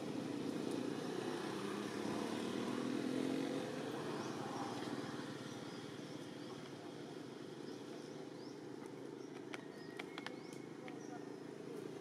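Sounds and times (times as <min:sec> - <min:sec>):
distant engine drone: 0:00.0 - 0:11.7.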